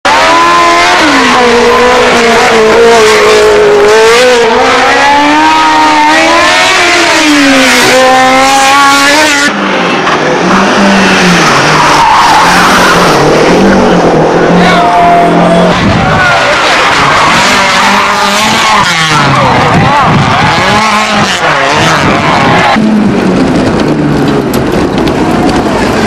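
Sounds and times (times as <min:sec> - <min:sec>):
race car engine at full throttle: 0:00.0 - 0:26.0
rally car engine: 0:00.1 - 0:26.0
tyre noise cornering: 0:00.1 - 0:26.0.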